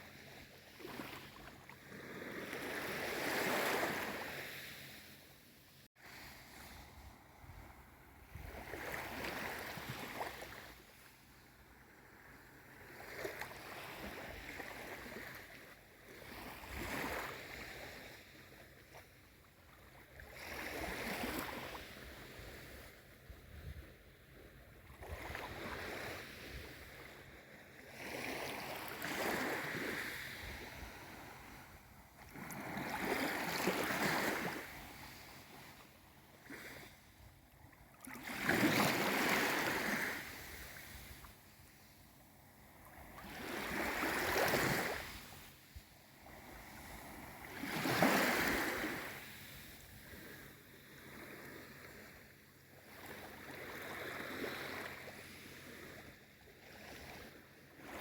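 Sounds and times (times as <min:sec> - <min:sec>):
small waves lapping: 0:00.0 - 0:58.0.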